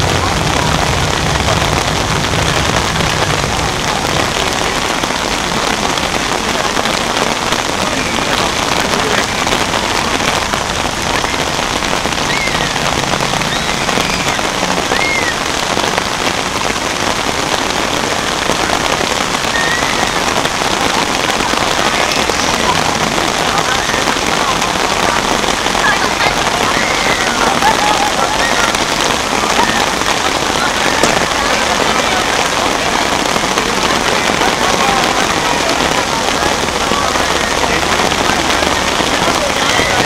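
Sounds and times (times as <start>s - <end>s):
rain on umbrellas: 0.0s - 40.0s.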